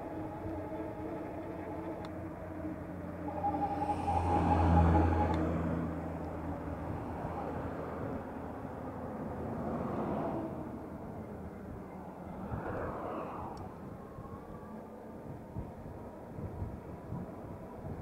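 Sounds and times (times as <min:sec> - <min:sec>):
vehicles passing: 0:00.0 - 0:17.6.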